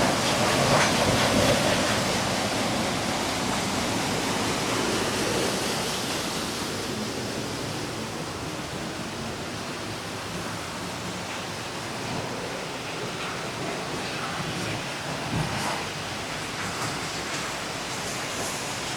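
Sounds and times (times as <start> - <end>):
flowing water rushing: 0.0 - 18.9.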